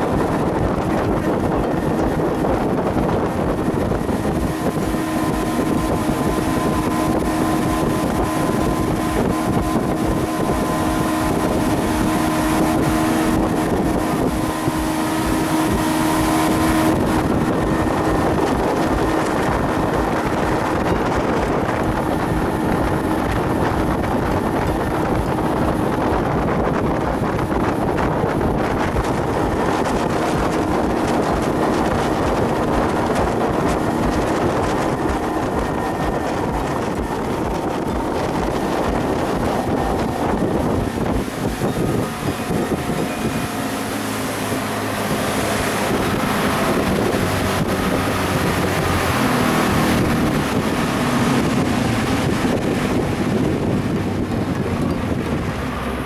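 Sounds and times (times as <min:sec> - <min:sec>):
boat motor running: 0:00.0 - 0:56.0
wind buffeting microphone: 0:00.0 - 0:56.0.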